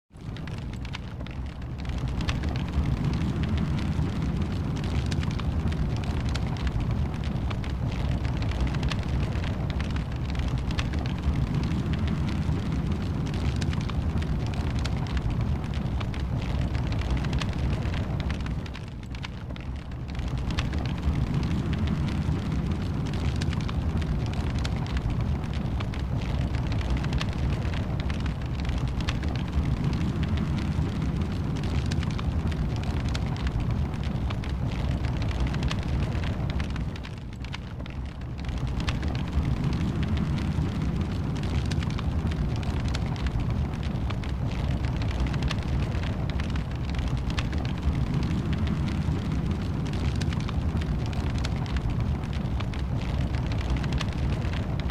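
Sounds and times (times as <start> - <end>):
fire crackles and pops: 0.1 - 54.9
wood fire flames rumbling: 0.1 - 54.9.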